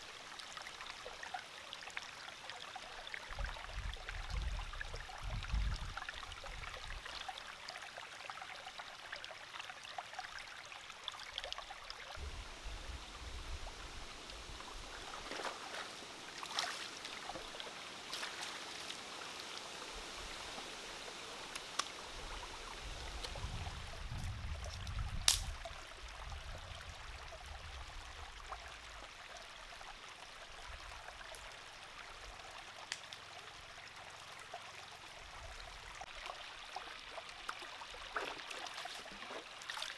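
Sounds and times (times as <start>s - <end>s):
shallow stream running over rocks: 0.0s - 39.9s.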